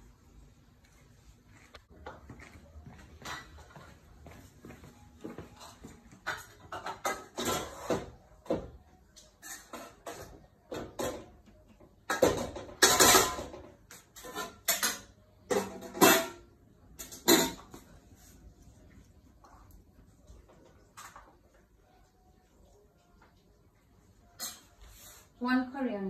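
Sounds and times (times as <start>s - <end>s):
rustling and scrabbling on tiles: 0.0s - 25.4s.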